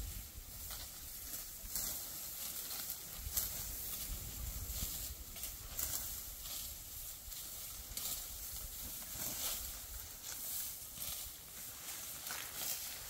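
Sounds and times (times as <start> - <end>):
dry wheat stalks rustling: 0.0 - 13.0.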